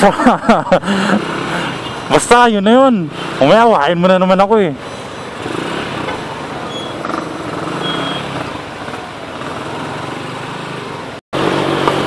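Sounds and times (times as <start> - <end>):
idling and creeping engines: 0.0 - 12.0.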